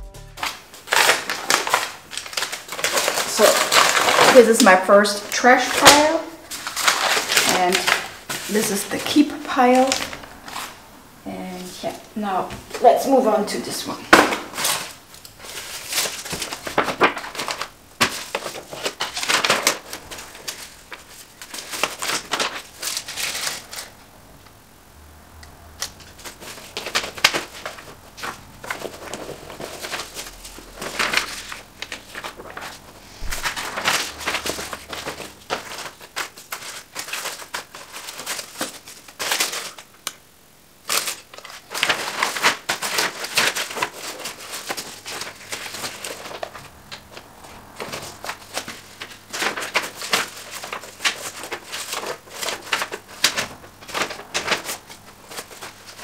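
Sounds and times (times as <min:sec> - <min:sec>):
paper rustling and crinkling: 0:00.4 - 0:10.8, 0:11.6 - 0:24.1, 0:25.8 - 0:40.2, 0:40.8 - 0:56.0.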